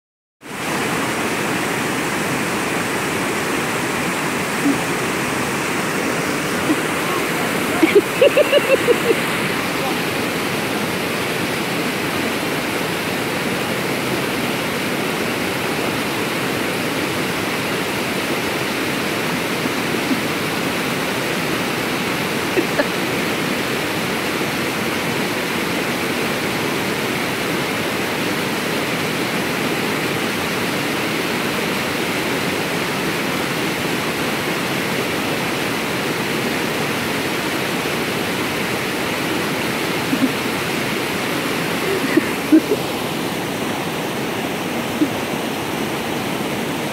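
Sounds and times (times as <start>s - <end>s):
small waterfall rushing: 0.4s - 46.9s.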